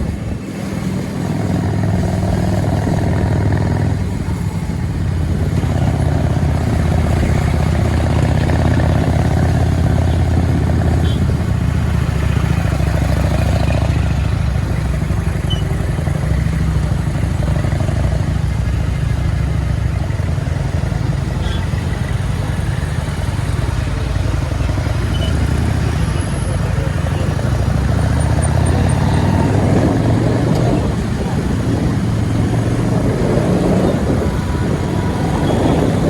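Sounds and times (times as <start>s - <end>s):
motorcycle engine rumble: 0.0s - 36.0s.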